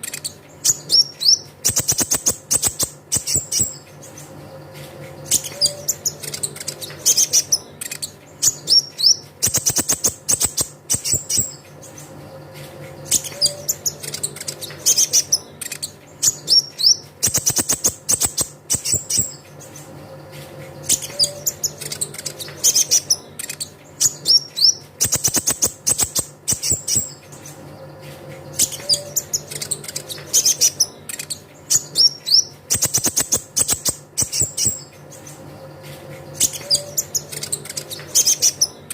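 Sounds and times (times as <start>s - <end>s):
sunbird chirps and trills: 0.0s - 38.9s.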